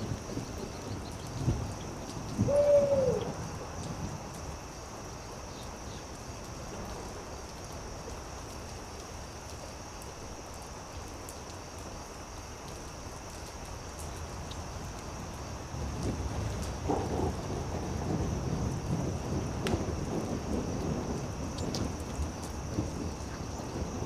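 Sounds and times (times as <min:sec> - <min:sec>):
campfire crackling: 0:03.1 - 0:24.0.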